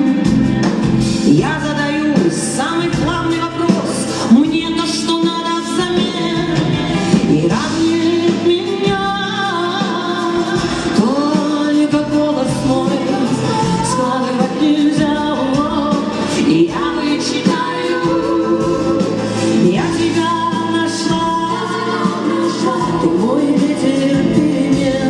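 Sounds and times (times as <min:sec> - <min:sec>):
pop ballad backing: 0:00.0 - 0:25.0
woman singing: 0:00.0 - 0:25.0.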